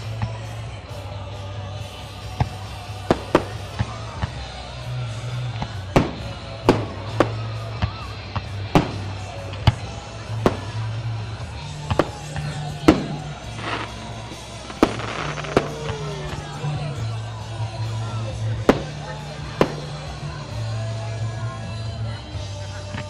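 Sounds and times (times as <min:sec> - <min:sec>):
music: 0:00.0 - 0:23.0.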